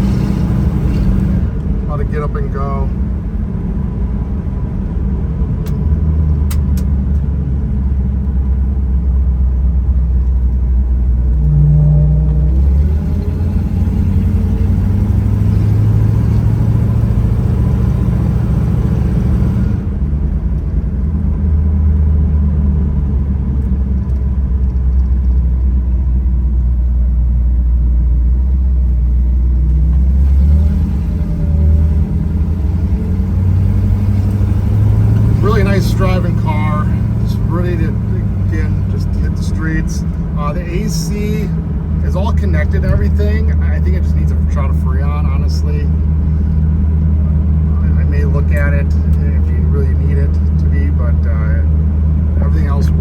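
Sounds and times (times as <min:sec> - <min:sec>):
car engine droning while driving: 0:00.0 - 0:53.0
road noise: 0:00.0 - 0:53.0.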